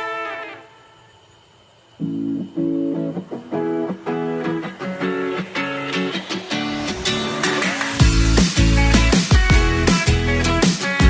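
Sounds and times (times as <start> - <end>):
rhythmic chords music: 2.0 - 11.0.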